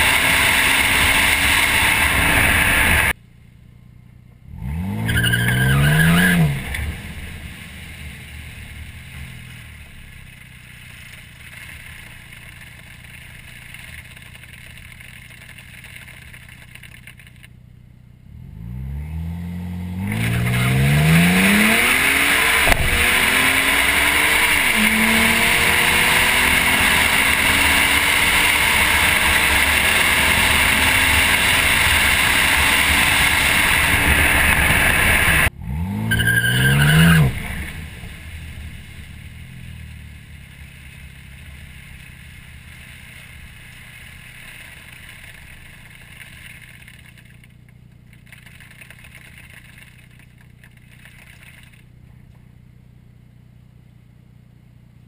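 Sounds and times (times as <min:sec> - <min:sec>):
car engine revving and idling: 0:00.0 - 0:55.0
road and tyre noise: 0:00.0 - 0:55.0.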